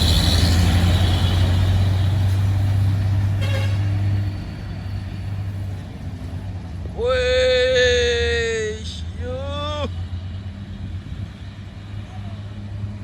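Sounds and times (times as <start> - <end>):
truck engine deep rumble: 0.0 - 13.0.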